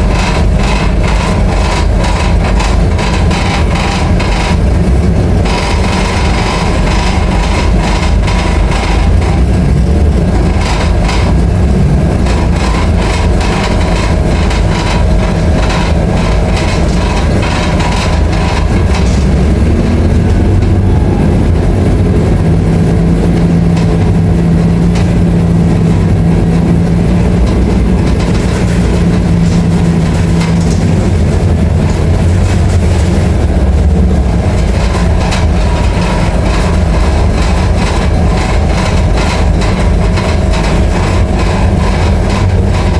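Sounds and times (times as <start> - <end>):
bus diesel engine rumbling: 0.0 - 42.9
rattling: 0.0 - 42.9
steady hum: 0.0 - 42.9.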